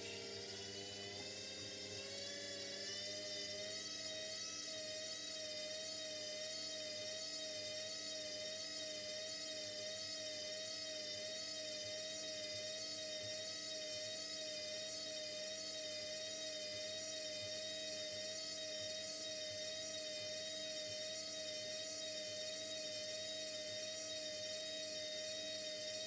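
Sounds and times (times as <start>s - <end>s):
washing machine motor whirring: 0.0s - 26.0s.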